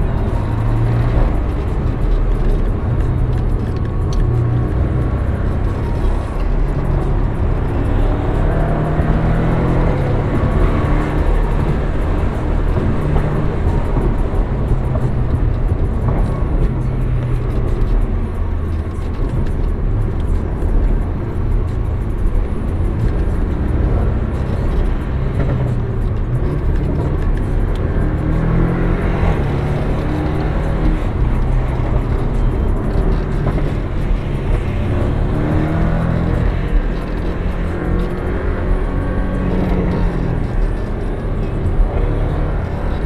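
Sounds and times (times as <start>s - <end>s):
car engine from inside cabin: 0.0s - 43.0s
road and tyre rumble: 0.0s - 43.0s.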